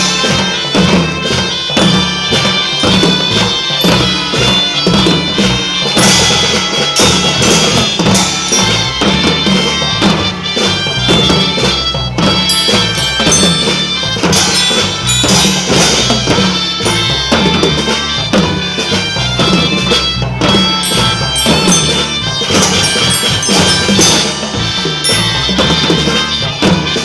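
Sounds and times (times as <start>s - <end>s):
drums beating: 0.0s - 27.0s
marching band playing: 0.0s - 27.0s.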